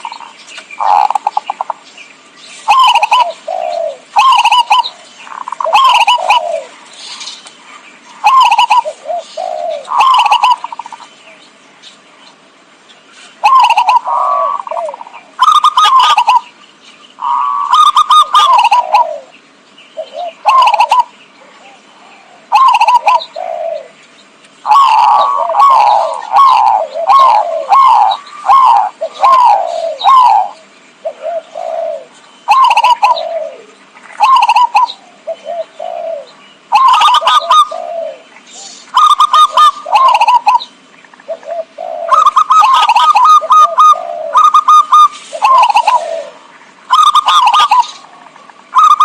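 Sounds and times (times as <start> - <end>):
dove cooing: 0.0 - 1.8, 2.6 - 7.4, 8.2 - 11.1, 13.3 - 16.5, 17.2 - 19.4, 20.0 - 24.0, 24.6 - 49.0.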